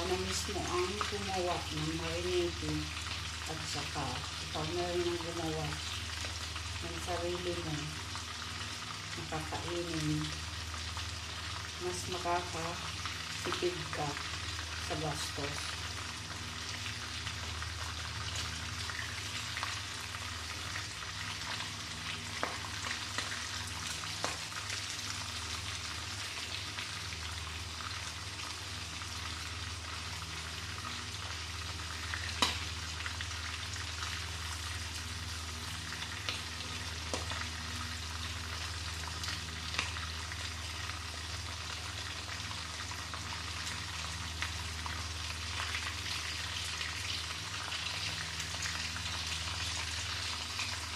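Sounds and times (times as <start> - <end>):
deep-frying sizzle: 0.0 - 50.9.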